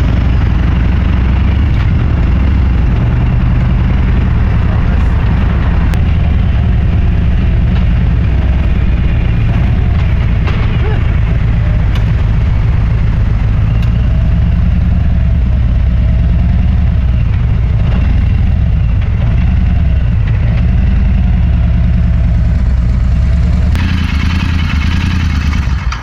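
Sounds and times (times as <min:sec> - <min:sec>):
motorcycle engine droning: 0:00.0 - 0:26.0.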